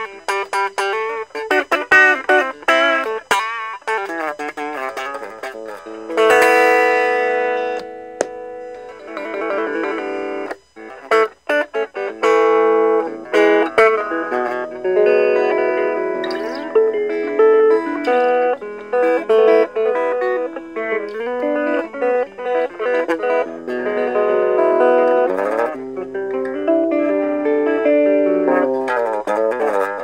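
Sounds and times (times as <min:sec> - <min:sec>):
electric guitar playing: 0:00.0 - 0:30.0.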